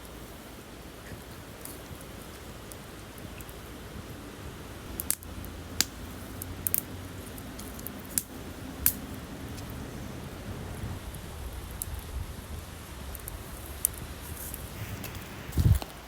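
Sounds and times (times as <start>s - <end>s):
burning wood popping: 0.0s - 16.0s
campfire crackling: 0.0s - 16.0s.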